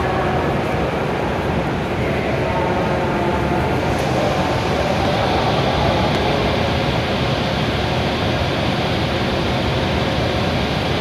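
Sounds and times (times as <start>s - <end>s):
train rushing noise: 0.0s - 11.0s
train whirring hum: 0.0s - 11.0s.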